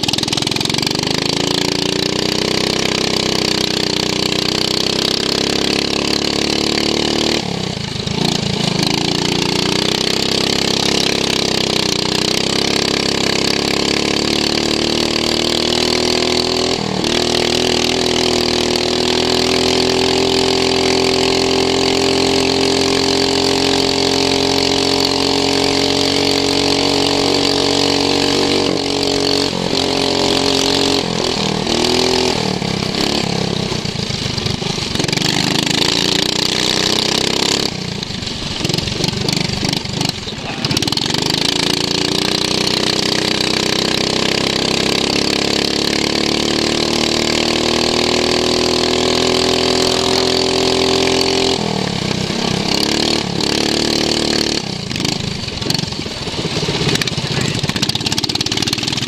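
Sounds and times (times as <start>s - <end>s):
lawn mower engine running hard: 0.0s - 59.0s.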